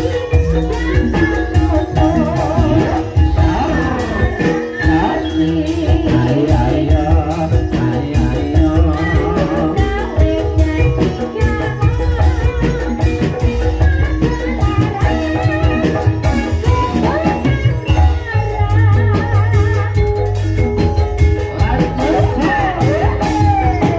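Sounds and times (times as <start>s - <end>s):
person singing ornamented line: 0.0s - 20.8s, 21.4s - 23.9s
held instrumental tones: 0.0s - 23.9s
steady drumming: 0.0s - 23.9s.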